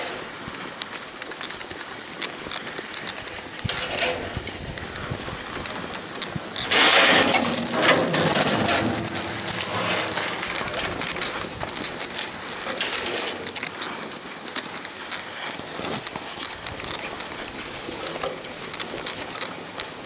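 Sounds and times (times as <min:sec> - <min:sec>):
skis scraping over packed snow: 0:00.0 - 0:20.0
small clicks and rattles: 0:00.0 - 0:20.0.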